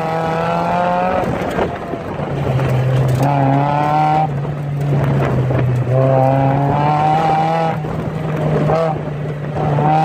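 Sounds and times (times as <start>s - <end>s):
car engine pulling hard: 0.0s - 10.0s.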